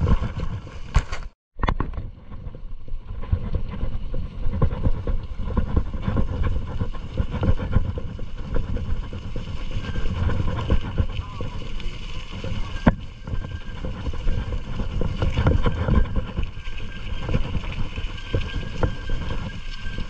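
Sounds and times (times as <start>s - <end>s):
bike knocking and rattling: 0.0s - 20.0s
wind noise on microphone: 0.0s - 20.0s.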